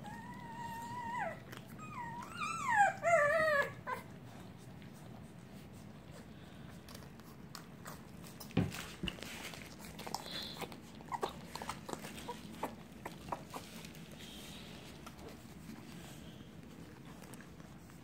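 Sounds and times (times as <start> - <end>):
puppies suckling: 0.0 - 18.0.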